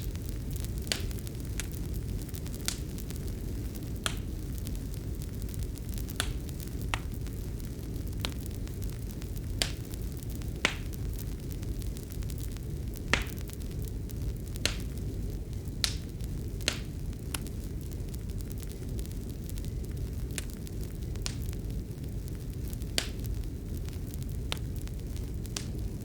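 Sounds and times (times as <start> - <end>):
fire crackling and popping: 0.0 - 26.0
low rumble of burning: 0.0 - 26.0.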